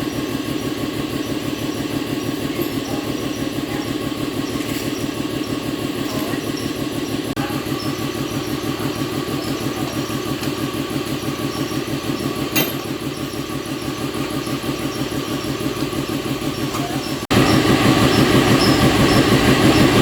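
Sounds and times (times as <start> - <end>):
engine running with fast pulse: 0.0 - 20.0.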